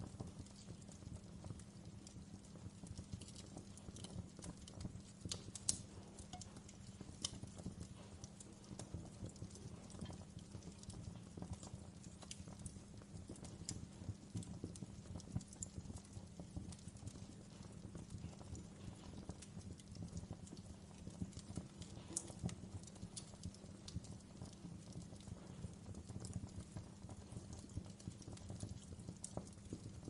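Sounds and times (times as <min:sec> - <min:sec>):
low rumble of flames: 0:00.0 - 0:30.0
wood fire crackling: 0:00.0 - 0:30.0.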